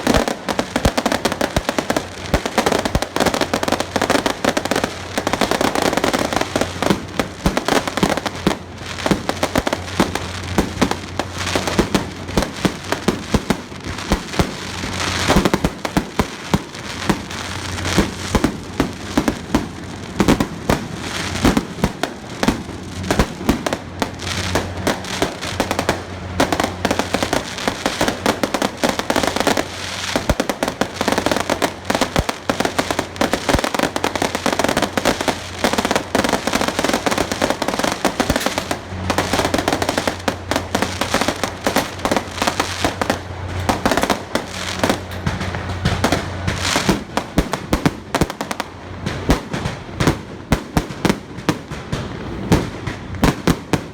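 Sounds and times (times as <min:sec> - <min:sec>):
firecrackers cracking and banging: 0:00.0 - 0:53.9.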